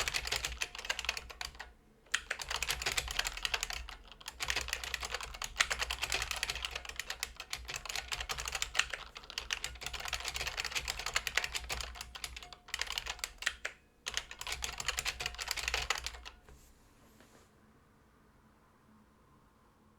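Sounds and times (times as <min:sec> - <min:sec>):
fast clicky keyboard typing: 0:00.0 - 0:16.4.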